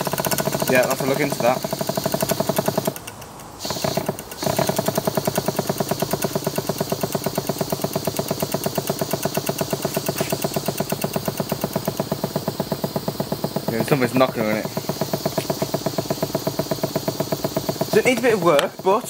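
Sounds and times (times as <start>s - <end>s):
steam engine exhaust beats: 0.0s - 19.0s
steam hissing: 0.0s - 19.0s.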